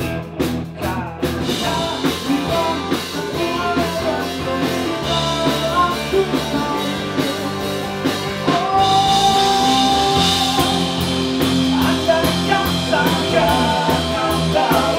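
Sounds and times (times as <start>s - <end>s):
drum kit: 0.0s - 14.9s
electric guitar: 0.0s - 14.9s
pop-rock band song: 0.0s - 14.9s
man singing lead vocal: 0.7s - 14.9s.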